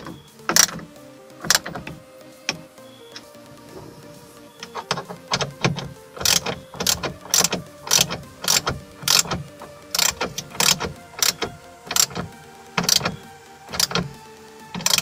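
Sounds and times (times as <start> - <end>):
ratchet wrench clicking: 0.0 - 3.3, 4.6 - 15.0.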